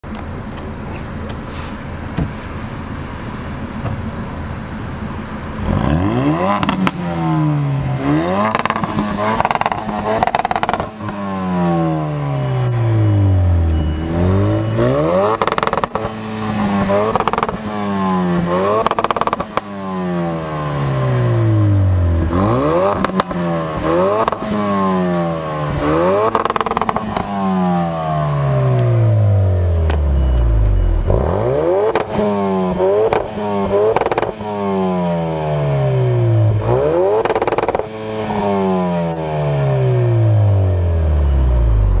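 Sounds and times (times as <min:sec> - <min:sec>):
car engine revving: 0:05.6 - 0:42.0.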